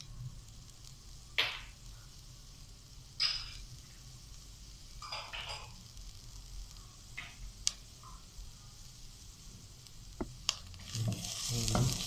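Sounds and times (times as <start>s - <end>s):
vegetables sizzling in wok: 0.0s - 12.0s.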